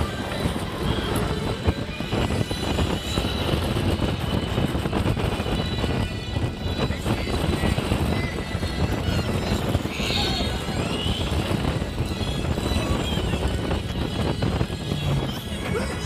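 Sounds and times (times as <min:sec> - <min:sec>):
roller coaster running on track: 0:00.0 - 0:16.0.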